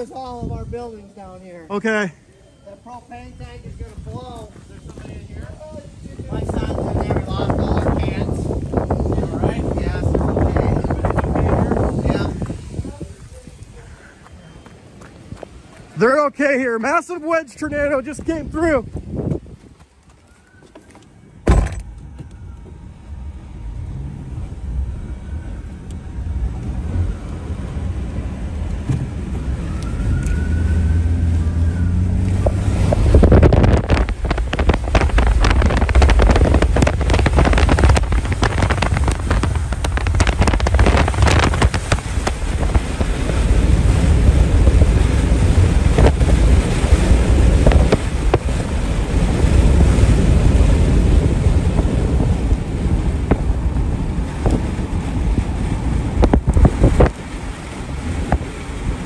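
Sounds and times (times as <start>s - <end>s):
wind buffeting microphone: 0.0s - 2.1s, 3.0s - 16.2s, 17.4s - 59.0s.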